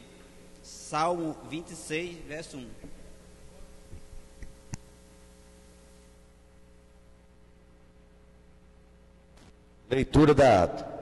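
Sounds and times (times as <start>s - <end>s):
mains hum: 0.0s - 11.0s.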